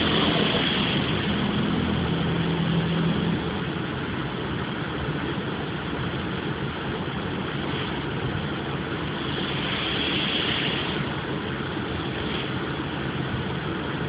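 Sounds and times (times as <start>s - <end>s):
car wash rumble and hiss: 0.0s - 14.0s.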